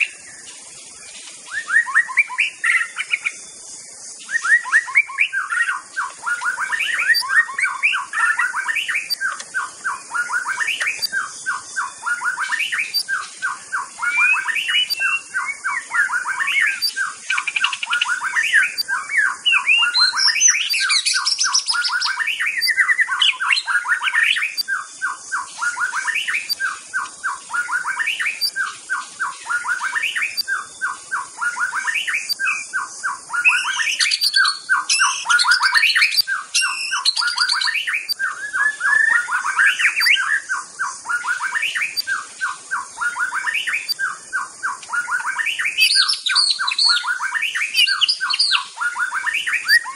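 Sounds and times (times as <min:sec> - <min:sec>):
bird singing: 0:00.0 - 0:49.9
steady high hiss: 0:00.0 - 0:49.9.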